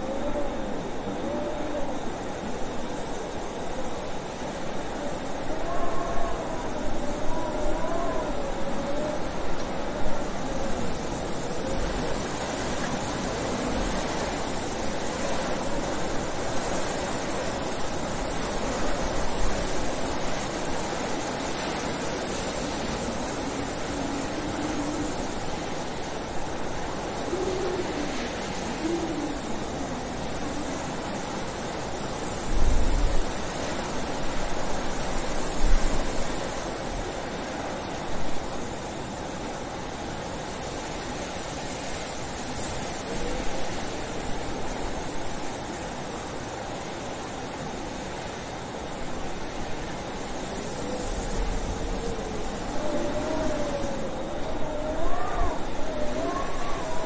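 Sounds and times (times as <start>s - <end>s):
blizzard wind howling: 0.0s - 57.0s
low wind gusts: 0.0s - 57.0s.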